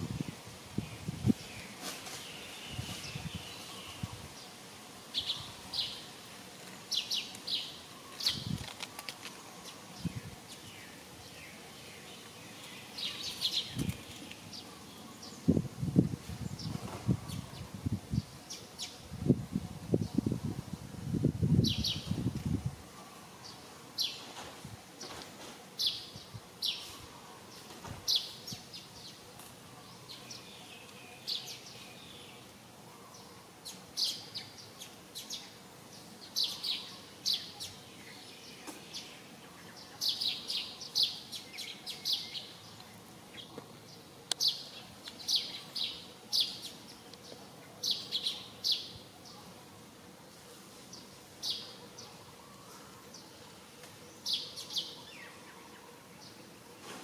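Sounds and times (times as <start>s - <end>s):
small birds chirping: 0.1s - 19.0s, 21.6s - 57.0s.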